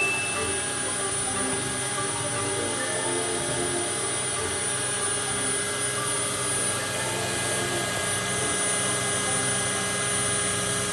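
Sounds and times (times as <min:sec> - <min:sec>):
electric drill spinning saw blade: 0:00.0 - 0:10.9.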